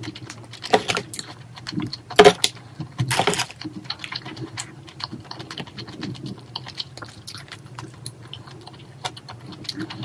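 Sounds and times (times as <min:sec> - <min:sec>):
chewing: 0:00.0 - 0:10.0
faint low hum: 0:00.0 - 0:10.0.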